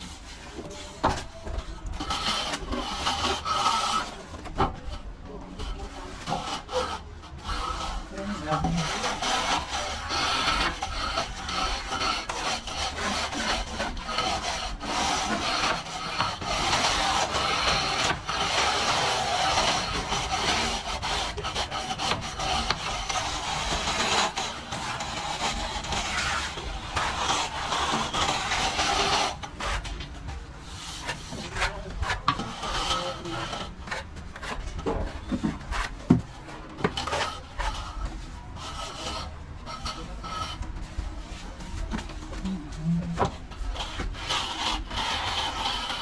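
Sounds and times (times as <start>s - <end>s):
plastering tool scraping a wall: 0.0s - 46.0s.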